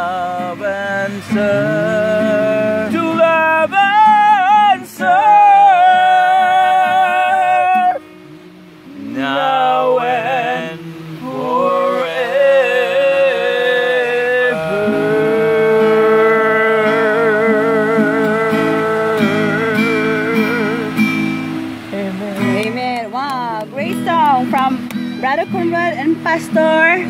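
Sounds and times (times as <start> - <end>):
man singing long held notes: 0.0 - 23.1
acoustic guitar: 0.0 - 27.0.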